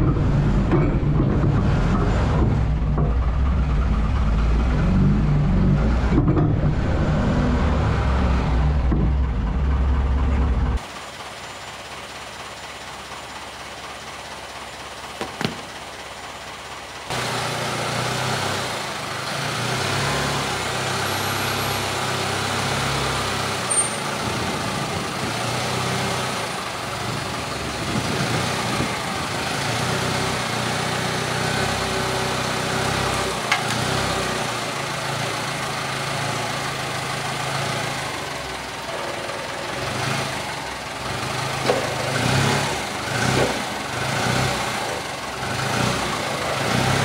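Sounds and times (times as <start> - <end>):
forklift engine under load: 0.0 - 47.0.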